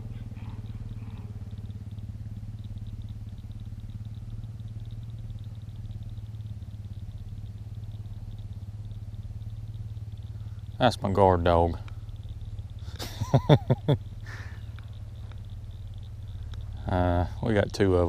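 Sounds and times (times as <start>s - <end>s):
fast faint ticking: 0.0s - 18.0s
idling engine hum: 0.0s - 18.0s.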